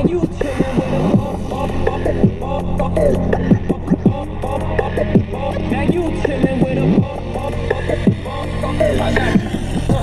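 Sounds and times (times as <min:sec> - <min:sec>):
hip-hop music with heavy bass: 0:00.0 - 0:10.0.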